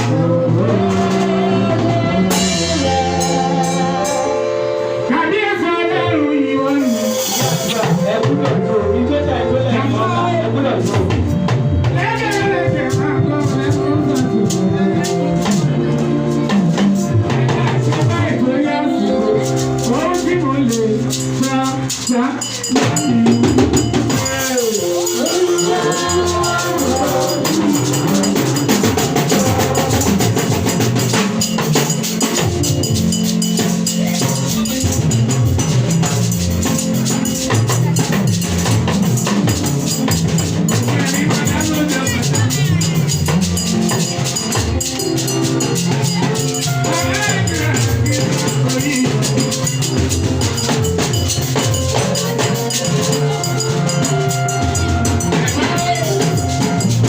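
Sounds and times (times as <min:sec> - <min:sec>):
drum kit and percussion groove: 0:00.0 - 0:05.7, 0:06.5 - 0:57.0
moving bass line: 0:00.0 - 0:57.0.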